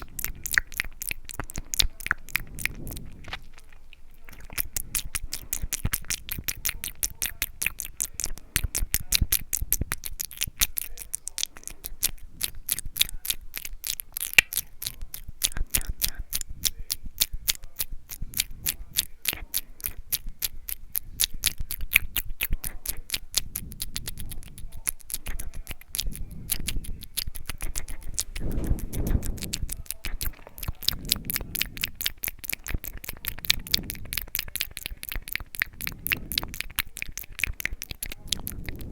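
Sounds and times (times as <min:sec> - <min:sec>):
wet mouth clicks and smacks: 0:00.0 - 0:38.9.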